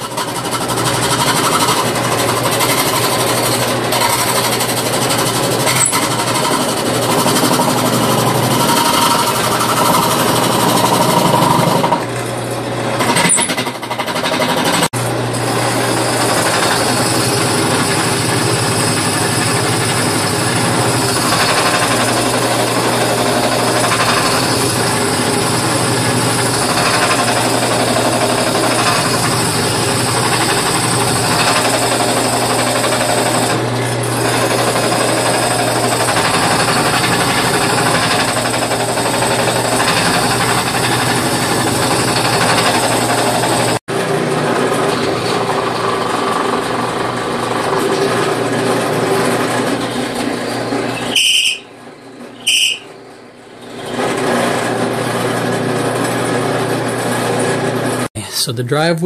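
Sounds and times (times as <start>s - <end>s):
chisel cutting spinning wood: 0.0s - 53.0s, 53.6s - 58.1s
drill press motor hum: 0.0s - 58.1s.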